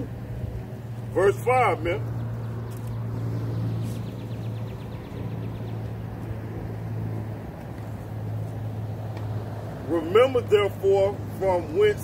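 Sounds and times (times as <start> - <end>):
outdoor background noise: 0.0 - 12.0
vehicle engine idling: 0.0 - 12.0.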